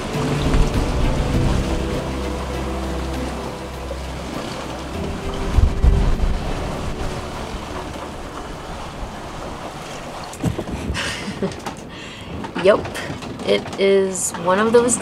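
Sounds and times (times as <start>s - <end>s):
breaking waves: 0.0s - 13.5s
gale-force wind: 0.0s - 13.8s
wind buffeting microphone: 0.0s - 15.0s.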